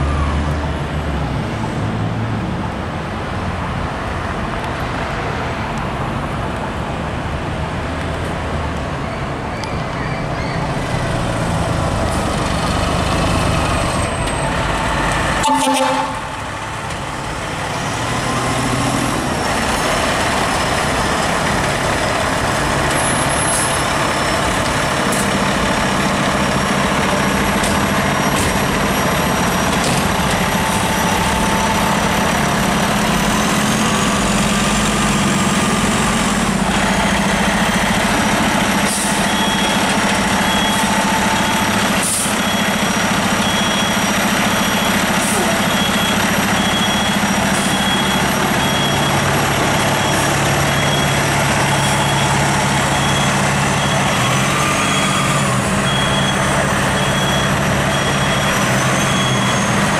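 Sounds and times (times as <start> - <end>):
diesel engine running: 10.6 - 59.9.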